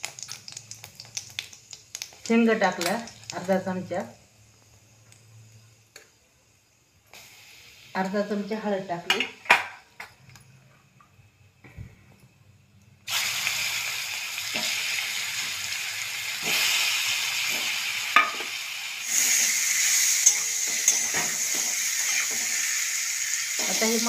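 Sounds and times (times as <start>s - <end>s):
food sizzling in hot oil: 0.0s - 9.8s, 13.1s - 24.0s.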